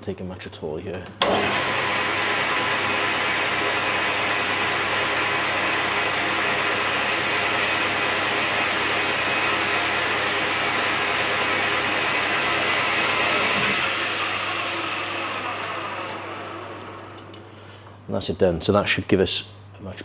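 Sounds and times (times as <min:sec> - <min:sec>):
lathe cutting: 0:01.2 - 0:17.7.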